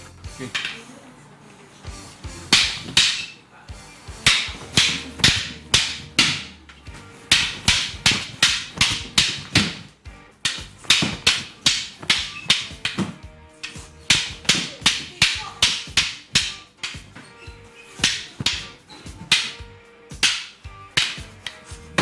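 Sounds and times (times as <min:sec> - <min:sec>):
sticks clacking together: 0:02.5 - 0:03.4, 0:04.2 - 0:22.0.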